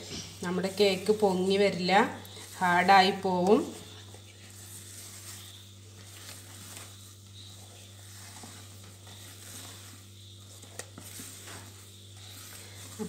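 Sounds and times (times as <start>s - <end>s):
spatula scraping batter in bowl: 0.0s - 13.0s.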